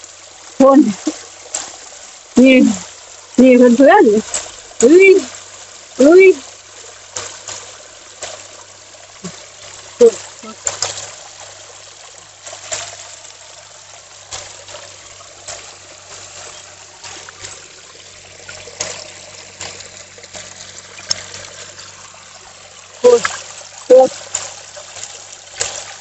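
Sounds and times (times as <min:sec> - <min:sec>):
rainwater pouring into pool: 0:00.0 - 0:26.0.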